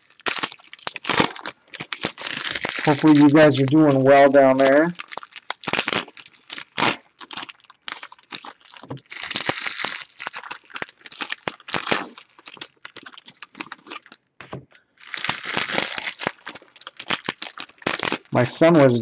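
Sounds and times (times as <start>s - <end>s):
wrappers tearing and crinkling: 0.0s - 14.2s, 15.0s - 19.0s.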